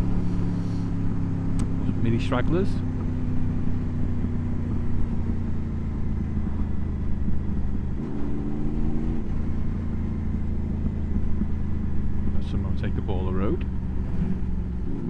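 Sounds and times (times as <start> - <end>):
motorcycle engine running: 0.0 - 15.0
passing vehicle engine: 0.0 - 15.0.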